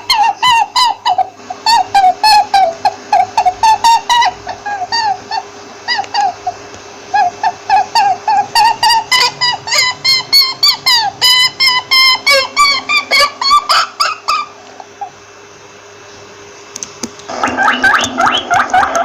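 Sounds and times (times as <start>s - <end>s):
rabbit squeaking: 0.0s - 15.2s, 17.3s - 19.0s
faint steady hum: 0.0s - 19.0s.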